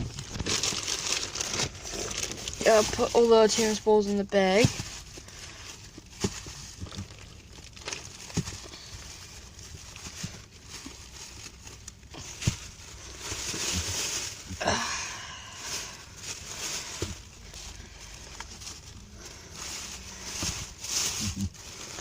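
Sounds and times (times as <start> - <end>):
bag rustling: 0.0 - 22.0.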